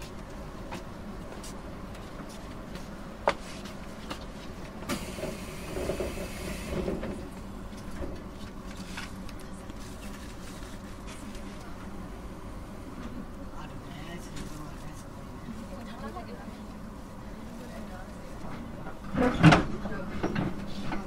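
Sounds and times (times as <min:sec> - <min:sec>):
electric train rumble: 0:00.0 - 0:21.0.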